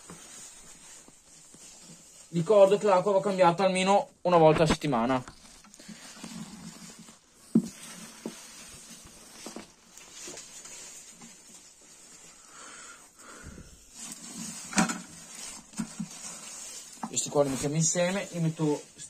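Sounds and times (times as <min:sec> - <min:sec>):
leaves rustling: 0:00.0 - 0:04.0, 0:04.6 - 0:19.0.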